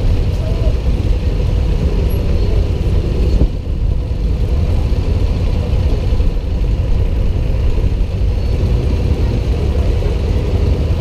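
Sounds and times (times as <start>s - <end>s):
motorcycle engines low rumble: 0.0s - 11.0s.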